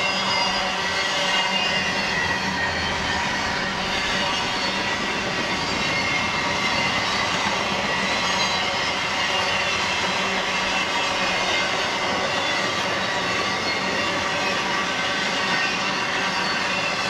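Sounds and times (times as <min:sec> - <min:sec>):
faint wheel squeal: 0:00.0 - 0:17.0
freight train wheels rumbling: 0:00.0 - 0:17.0.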